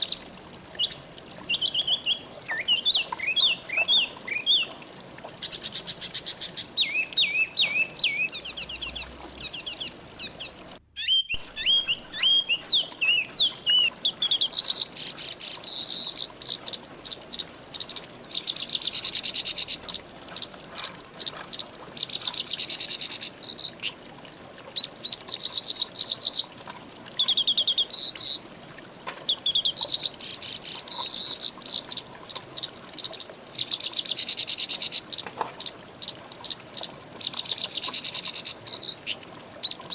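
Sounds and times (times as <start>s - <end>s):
songbirds chirping and trilling: 0.0s - 24.0s, 24.8s - 39.9s.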